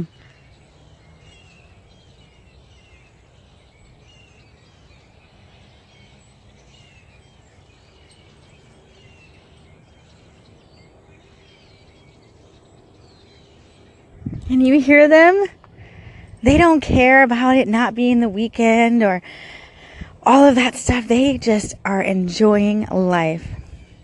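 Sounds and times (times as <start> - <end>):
birds chirping: 0.0 - 24.0
low outdoor background hum: 0.0 - 24.0.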